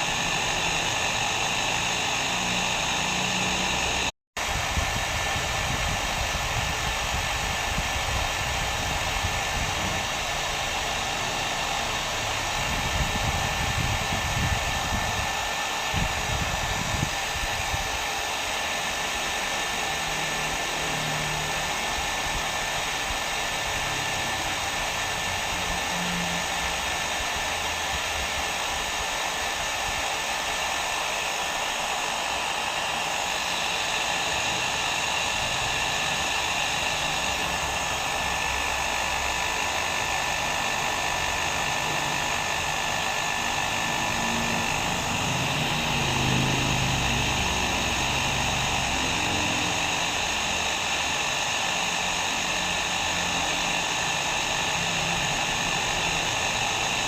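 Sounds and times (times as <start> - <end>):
hair dryer blowing: 0.0 - 57.0.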